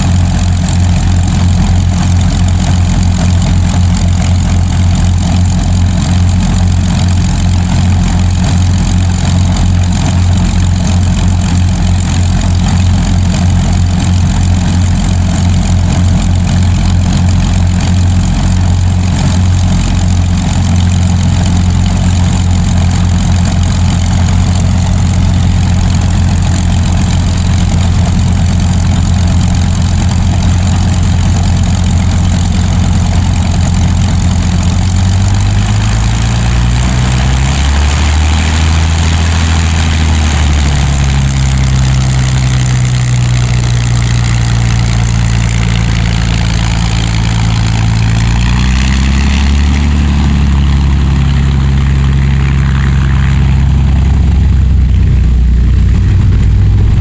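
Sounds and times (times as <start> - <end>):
aircraft piston engines running: 0.0 - 57.0.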